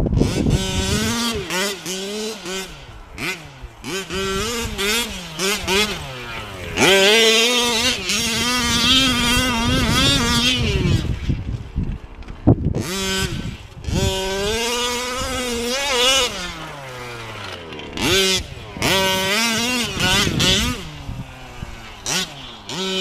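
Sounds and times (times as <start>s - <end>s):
rc truck engine revving: 0.0s - 23.0s.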